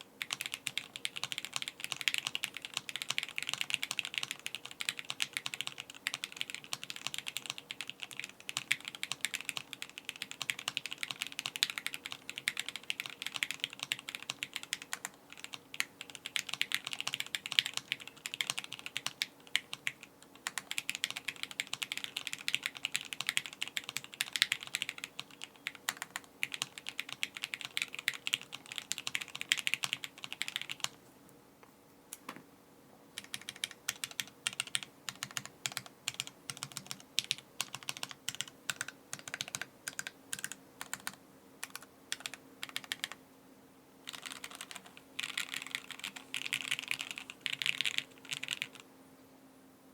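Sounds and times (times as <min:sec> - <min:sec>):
mechanical keyboard typing: 0:00.2 - 0:31.0, 0:33.2 - 0:43.2, 0:44.1 - 0:48.8.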